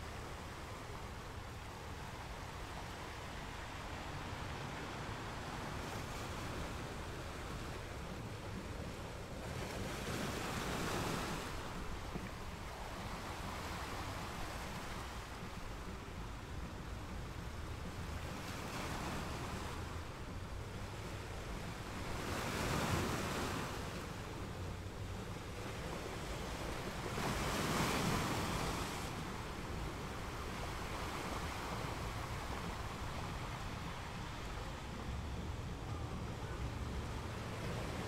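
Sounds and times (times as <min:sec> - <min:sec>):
sea waves washing onto shore: 0:00.0 - 0:38.0.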